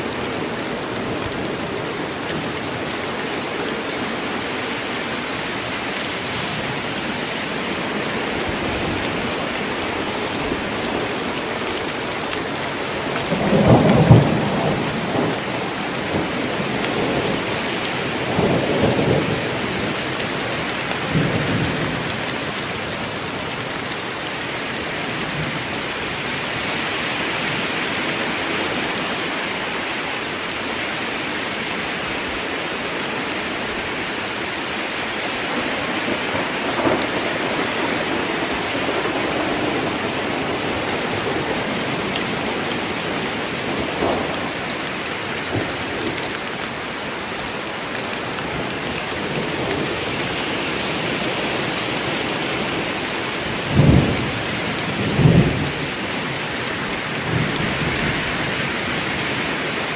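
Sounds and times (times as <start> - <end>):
heavy rain in a forest: 0.0 - 59.9.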